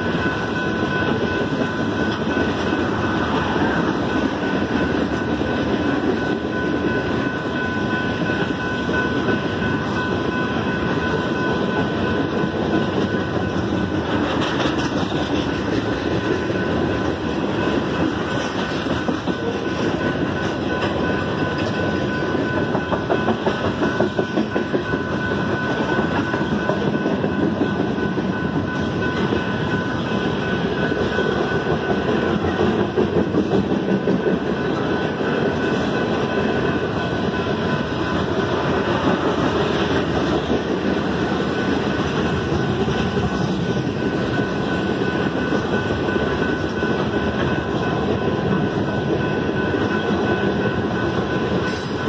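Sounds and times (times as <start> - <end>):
train wheels rumbling on rail: 0.0 - 52.0
wheels clickety-clack on rail joints: 0.0 - 52.0.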